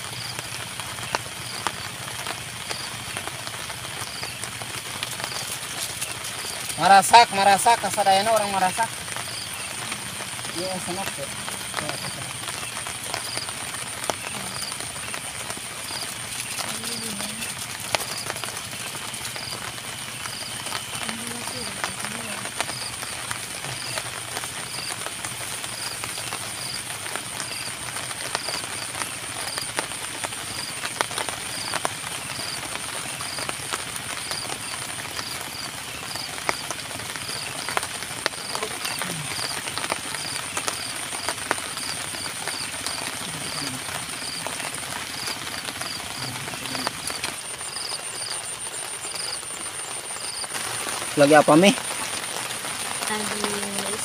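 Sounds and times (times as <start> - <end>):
steady rain falling: 0.0 - 54.0
high insect buzz: 3.9 - 54.0.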